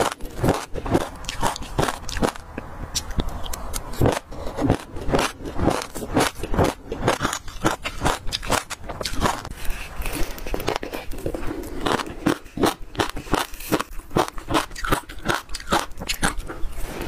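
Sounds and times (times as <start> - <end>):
chewing crunchy seeds: 0.0 - 17.0.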